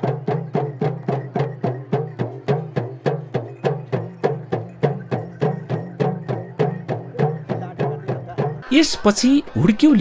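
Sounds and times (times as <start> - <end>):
hand drums played fast: 0.0 - 8.7.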